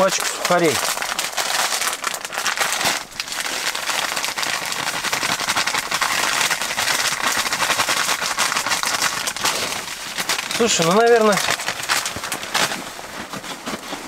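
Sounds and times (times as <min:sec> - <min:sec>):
crumbs mixed by hand: 0:00.0 - 0:14.0.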